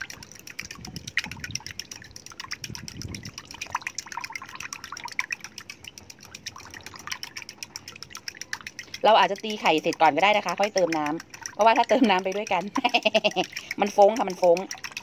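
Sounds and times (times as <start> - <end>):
mixture sloshing: 0.0 - 15.0
utensil clicking against cup: 0.0 - 15.0.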